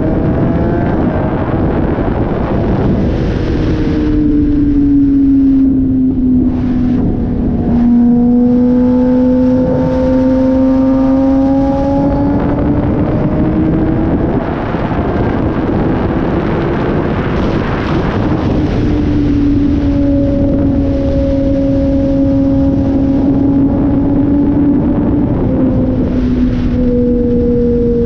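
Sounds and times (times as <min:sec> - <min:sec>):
motorcycle engine accelerating: 0:00.0 - 0:28.0
wind rushing over microphone: 0:00.0 - 0:28.0.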